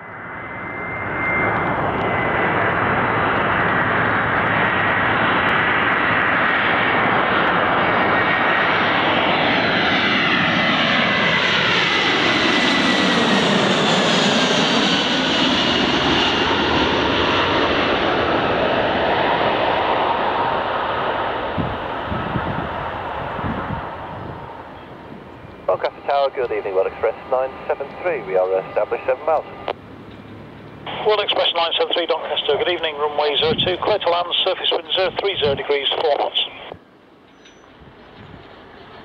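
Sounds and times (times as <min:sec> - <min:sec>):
jet aircraft engines roaring overhead: 0:00.0 - 0:39.0.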